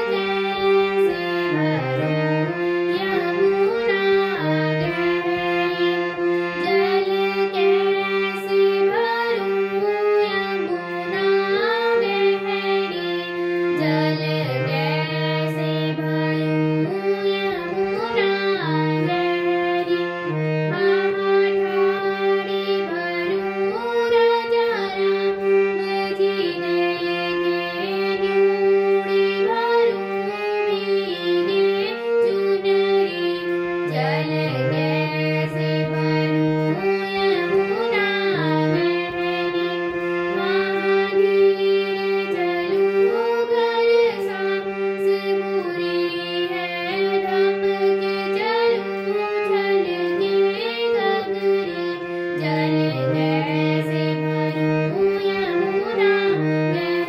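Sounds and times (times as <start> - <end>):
girl singing: 0.0 - 57.0
harmonium melody: 0.0 - 57.0.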